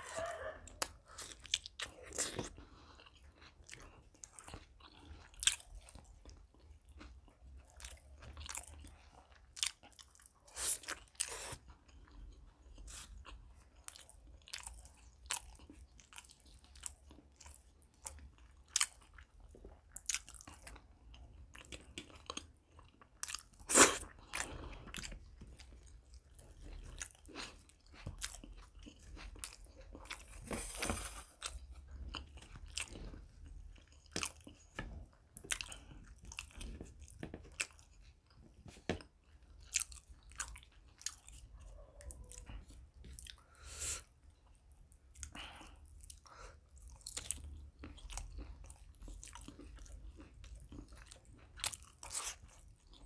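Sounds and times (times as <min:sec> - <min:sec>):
man chewing food: 0:00.0 - 0:53.0.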